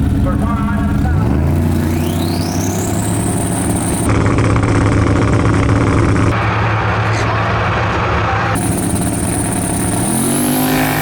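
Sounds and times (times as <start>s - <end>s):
race car engines whining: 0.0s - 11.0s.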